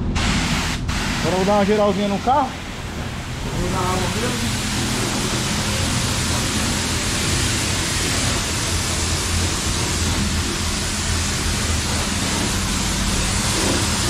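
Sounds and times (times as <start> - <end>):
pressure washer spraying water: 0.0 - 14.0.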